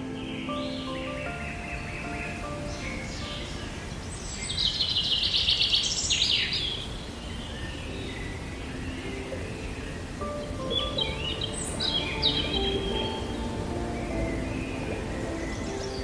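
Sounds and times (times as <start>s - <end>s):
steady outdoor noise: 0.0s - 16.0s
wild birds singing: 0.0s - 16.0s.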